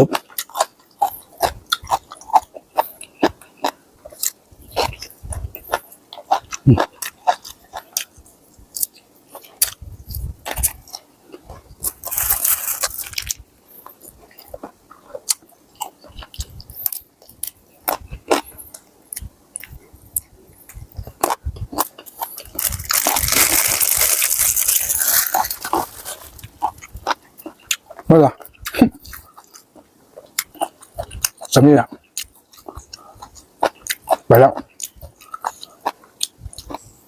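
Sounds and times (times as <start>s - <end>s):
crunching of crisp food: 0.0s - 37.0s.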